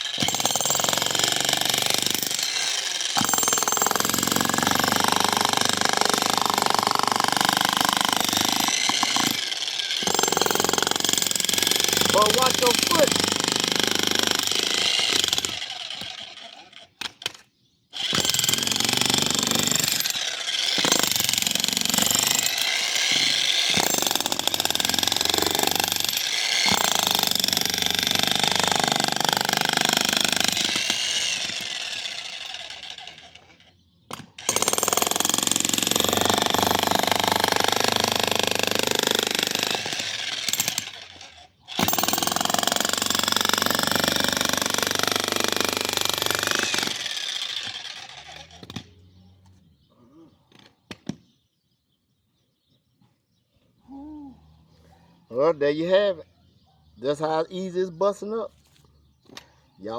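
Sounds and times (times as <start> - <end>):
jackhammer hammering concrete: 0.0 - 17.4, 18.0 - 48.9.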